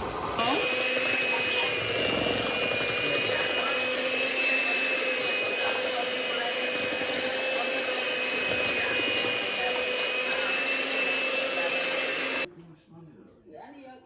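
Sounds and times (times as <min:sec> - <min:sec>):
electric mixer whining: 0:00.0 - 0:12.5.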